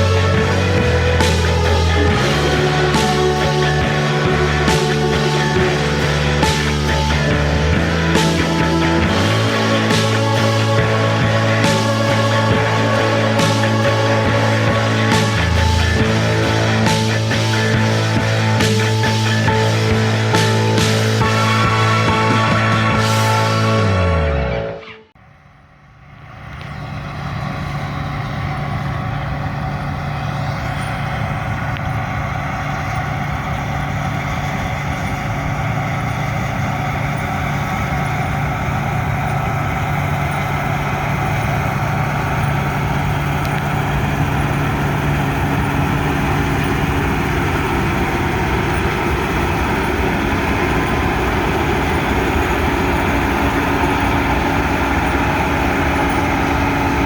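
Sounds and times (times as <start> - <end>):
heavy machinery engine running: 0.0 - 24.2, 25.2 - 57.0.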